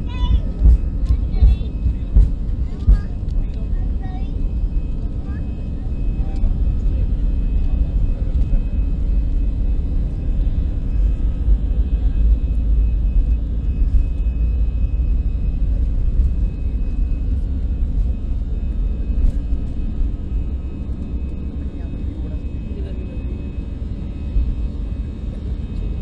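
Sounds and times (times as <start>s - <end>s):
jet engine noise: 0.0s - 26.0s.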